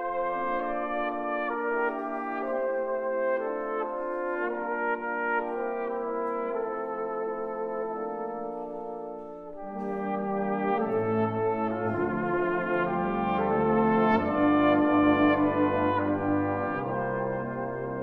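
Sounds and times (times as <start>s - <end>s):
brass band chords: 0.0s - 18.0s
cornet melody with vibrato: 0.0s - 18.0s.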